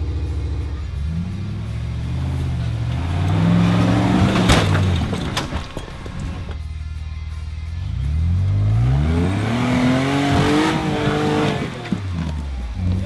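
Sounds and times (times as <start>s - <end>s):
engine revving: 0.0s - 6.6s, 7.8s - 13.0s.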